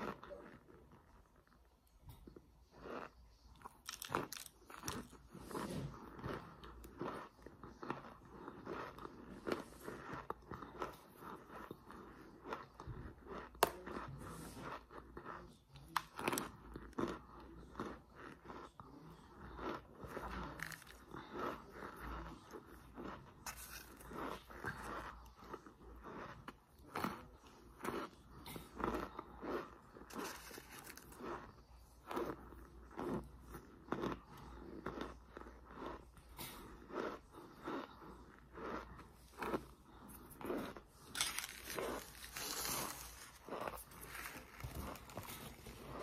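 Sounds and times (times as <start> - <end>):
crunchy chewing: 0.0 - 46.0.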